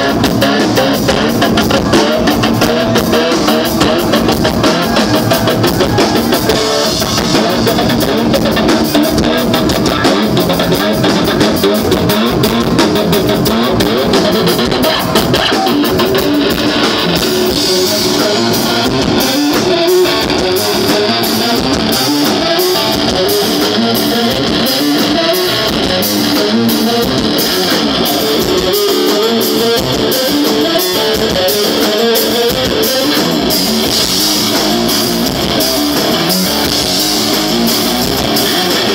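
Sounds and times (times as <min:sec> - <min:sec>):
drum kit: 0:00.0 - 0:38.9
electric guitar strumming: 0:00.0 - 0:38.9.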